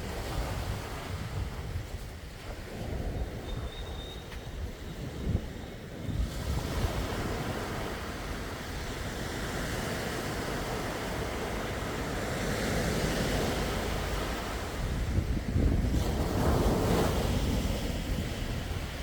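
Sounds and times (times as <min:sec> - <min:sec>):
sea waves washing in: 0:00.0 - 0:03.7, 0:05.0 - 0:19.0
wind on microphone: 0:00.0 - 0:19.0.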